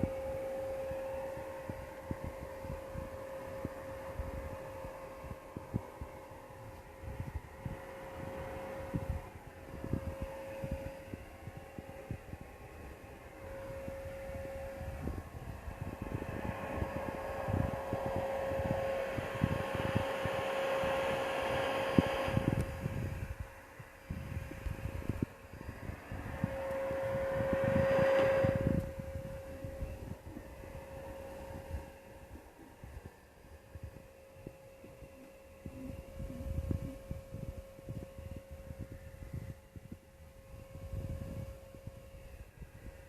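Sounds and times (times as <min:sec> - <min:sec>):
vacuum cleaner running: 0:00.0 - 0:43.0.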